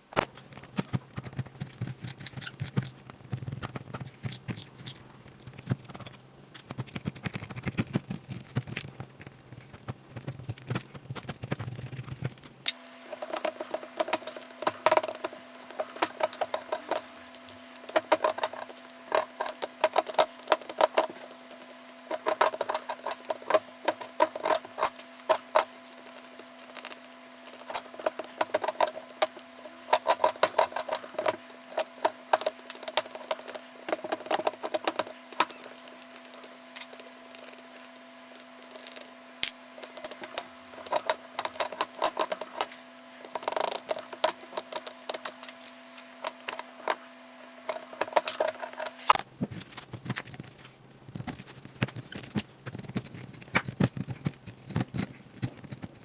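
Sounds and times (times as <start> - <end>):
faint steady hum: 0.0 - 56.0
tool scraping and chipping plaster: 0.3 - 56.0.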